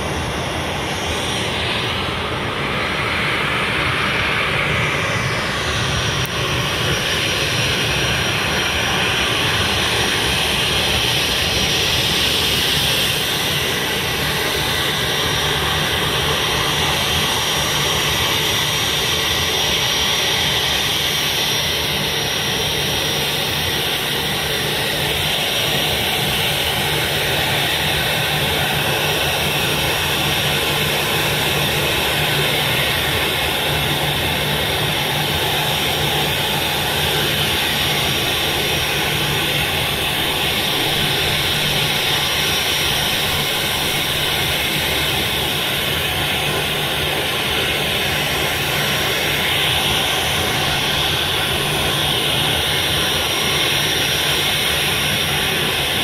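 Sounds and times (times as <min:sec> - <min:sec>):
jet engines at taxi power: 0:00.0 - 0:56.0.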